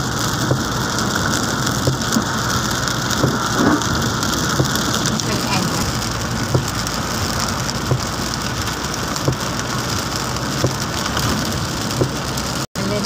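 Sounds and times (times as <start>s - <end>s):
rain on a car: 0.0s - 13.0s
tyres hissing on wet road: 0.0s - 13.0s
windscreen wipers knocking: 0.2s - 12.6s.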